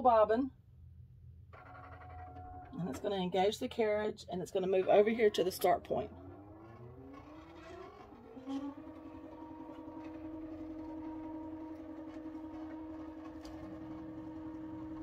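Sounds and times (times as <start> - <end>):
quilting machine motor whine: 1.5 - 15.0.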